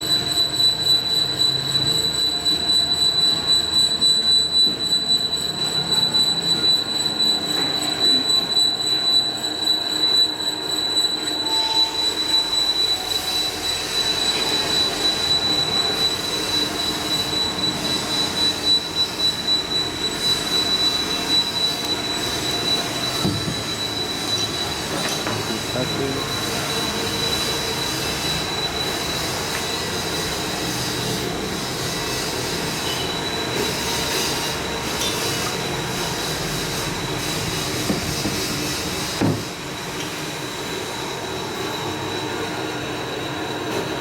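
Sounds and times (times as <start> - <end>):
machinery high-pitched whine: 0.0 - 44.0.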